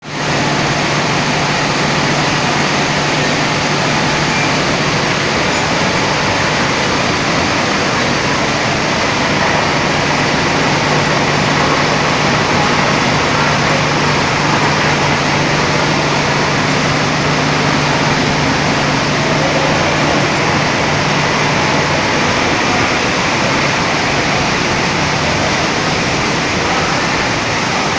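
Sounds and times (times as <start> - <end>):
sump pump running: 0.0 - 27.9.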